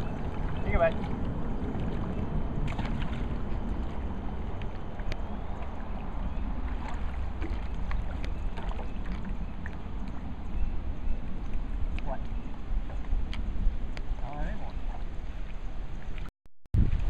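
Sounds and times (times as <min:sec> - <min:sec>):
water splashing and lapping: 0:00.0 - 0:17.0
wind rumbling on microphone: 0:00.0 - 0:17.0.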